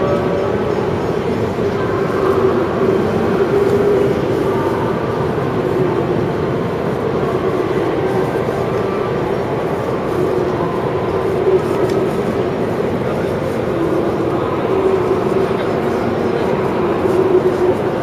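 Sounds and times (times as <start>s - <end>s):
railway station rumble: 0.0s - 18.0s.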